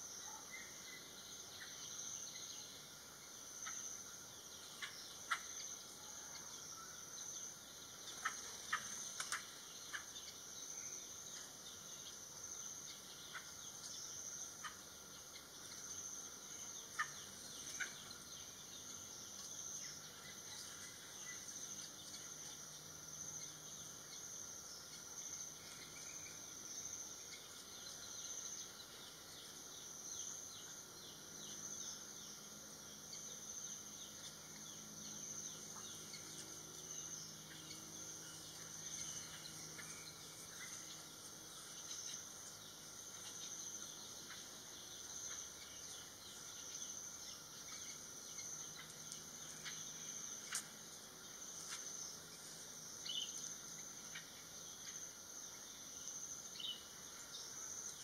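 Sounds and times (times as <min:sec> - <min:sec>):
insect chorus pulsing drone: 0:00.0 - 0:58.0.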